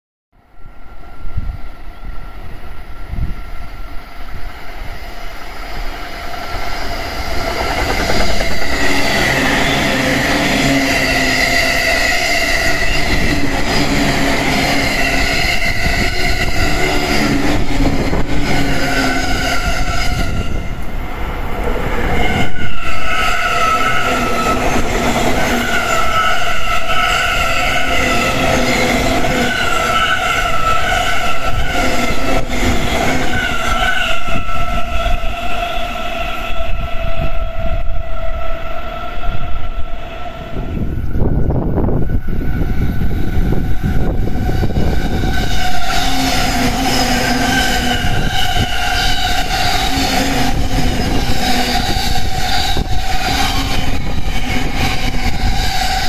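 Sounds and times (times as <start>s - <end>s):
electric train passing: 0.4s - 56.0s.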